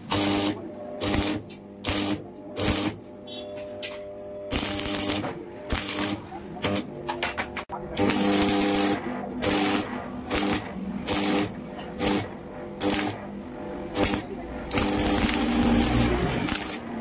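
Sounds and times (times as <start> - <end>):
welding arc crackle: 0.0 - 17.0.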